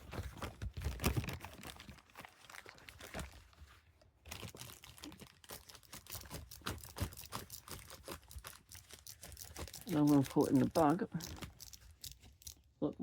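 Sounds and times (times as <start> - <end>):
bag crinkling: 0.0 - 3.6, 4.2 - 12.8.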